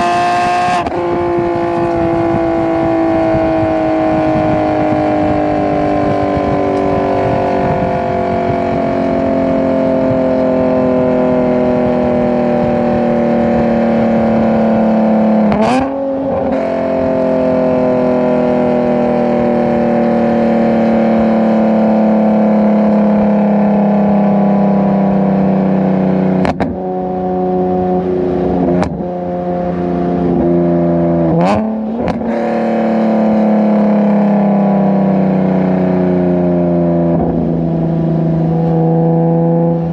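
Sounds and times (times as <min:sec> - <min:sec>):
car exhaust note: 0:00.0 - 0:39.9.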